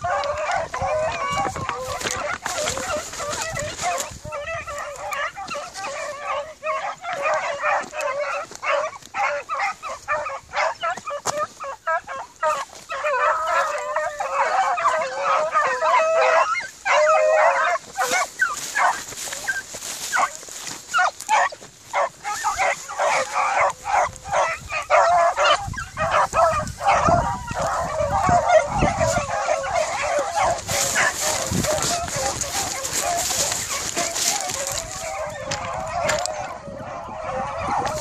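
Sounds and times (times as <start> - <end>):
hounds yelping and baying: 0.0 - 38.0.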